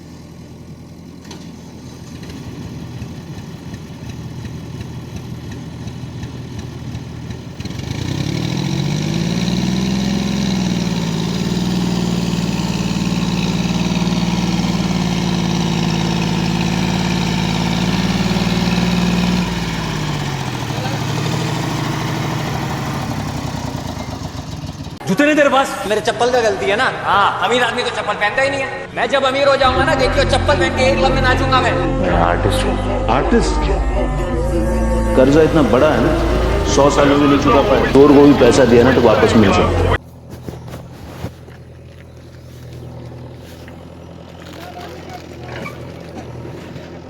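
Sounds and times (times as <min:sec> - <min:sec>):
diesel engine idling and revving: 0:00.0 - 0:25.1, 0:26.0 - 0:47.0.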